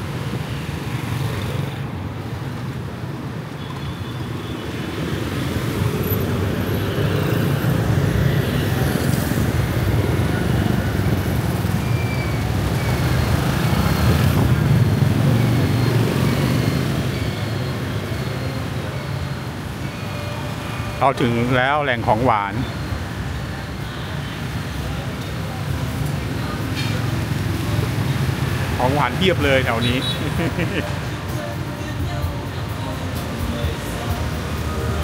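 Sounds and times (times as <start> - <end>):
motorbikes and cars passing: 0.0 - 35.0.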